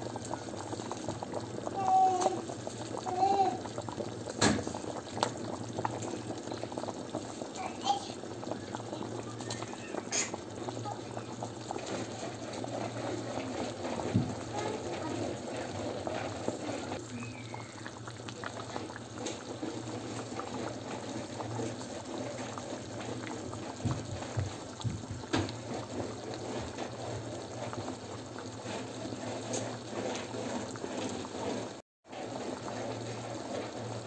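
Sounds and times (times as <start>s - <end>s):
stew bubbling in a pot: 0.0s - 34.0s.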